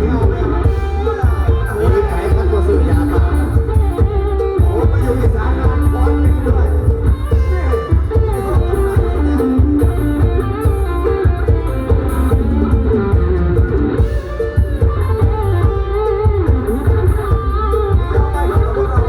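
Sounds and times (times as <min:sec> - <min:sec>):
band music with electric guitar: 0:00.0 - 0:19.0.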